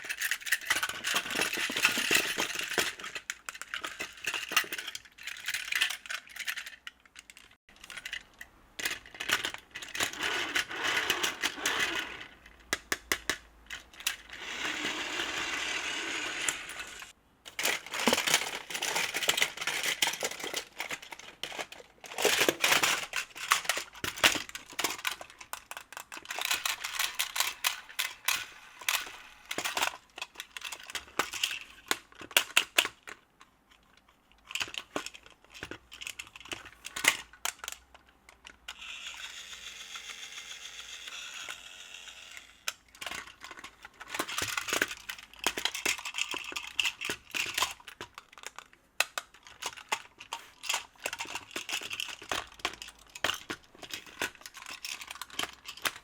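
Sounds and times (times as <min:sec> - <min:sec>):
plastic toy parts clicking: 0:00.0 - 0:56.0.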